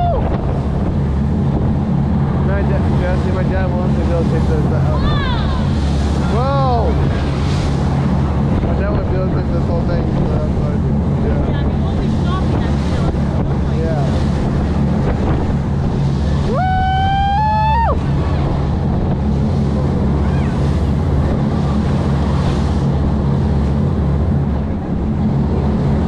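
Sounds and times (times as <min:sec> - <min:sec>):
boat engine drone: 0:00.0 - 0:26.0
wind buffeting microphone: 0:00.0 - 0:26.0.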